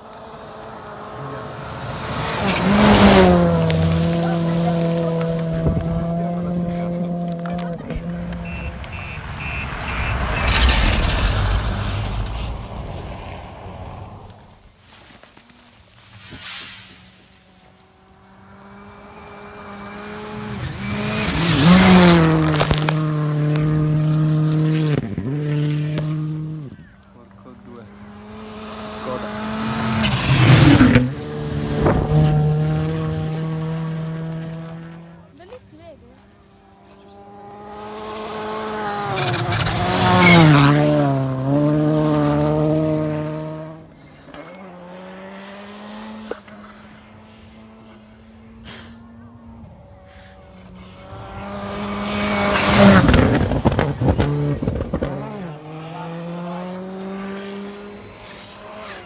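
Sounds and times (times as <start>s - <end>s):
rally car engine approaching: 0.0s - 59.0s
rush of tyre noise: 0.0s - 59.0s.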